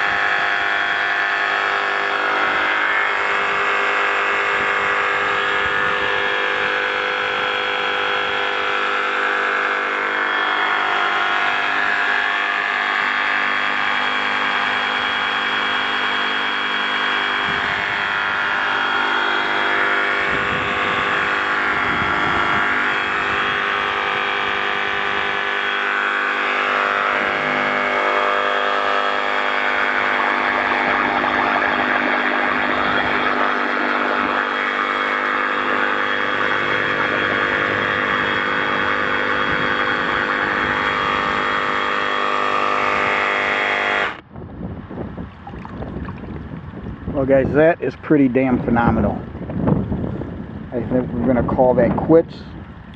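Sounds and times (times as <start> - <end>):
water churning and splashing: 0.0 - 43.5, 45.2 - 47.1
reciprocating saw motor whine: 0.0 - 52.9.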